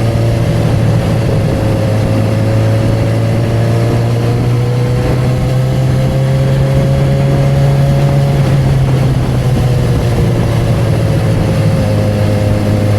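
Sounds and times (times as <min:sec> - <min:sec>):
motorcycle engine running: 0:00.0 - 0:12.9
wind and road noise: 0:00.0 - 0:12.9.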